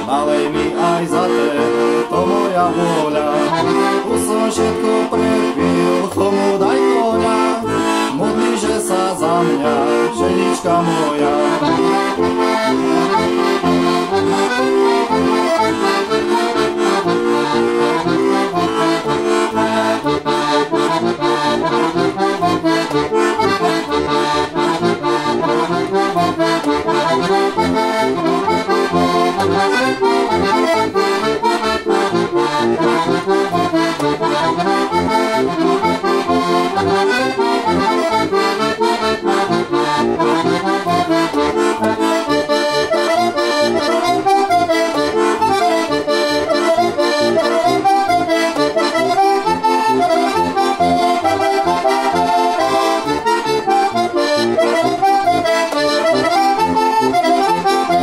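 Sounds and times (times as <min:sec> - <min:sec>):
button accordion folk tune: 0:00.0 - 0:58.0.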